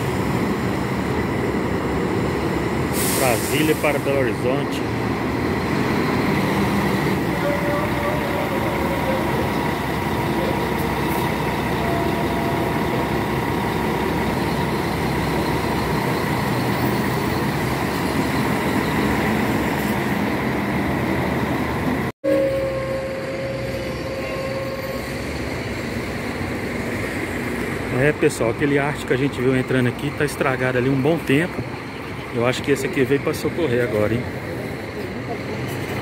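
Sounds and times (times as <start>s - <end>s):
diesel coach engine rumbling: 0.0s - 36.0s.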